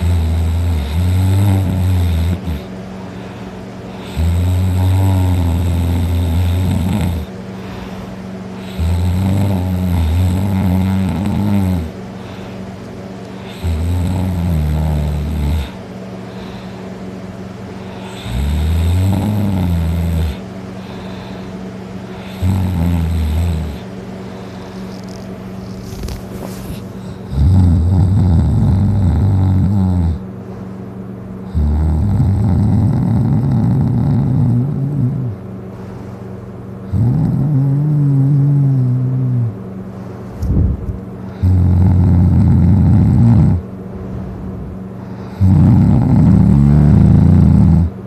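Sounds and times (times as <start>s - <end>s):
person snoring heavily: 0.0s - 12.6s, 13.4s - 16.9s, 17.8s - 30.3s, 31.4s - 35.4s, 36.8s - 39.6s, 40.5s - 43.7s, 44.6s - 48.0s
quiet breathing: 0.0s - 48.0s.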